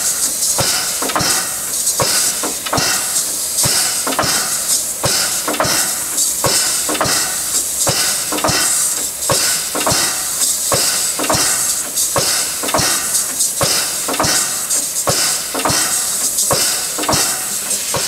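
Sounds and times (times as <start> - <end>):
air pump beating: 0.0 - 18.0
steam locomotive hissing: 0.0 - 18.0.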